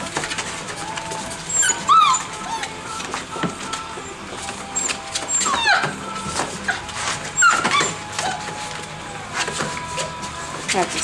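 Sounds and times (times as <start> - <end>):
puppies whining and yelping: 0.2 - 10.6.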